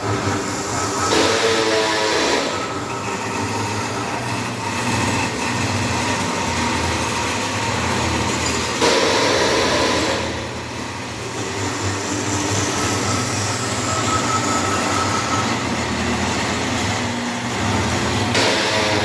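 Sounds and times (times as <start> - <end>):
cutting machine running: 0.0 - 19.0.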